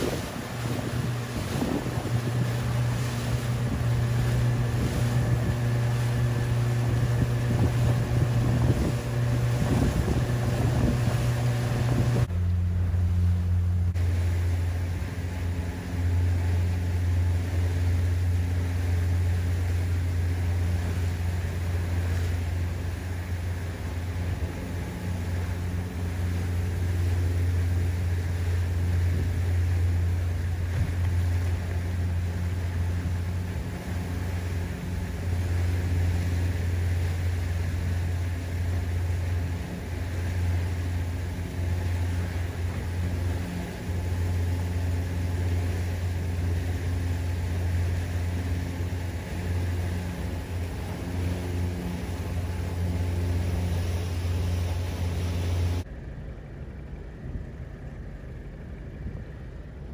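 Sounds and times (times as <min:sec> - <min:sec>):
boat engine humming: 0:00.0 - 0:59.9
wind and water hiss: 0:00.0 - 0:59.9.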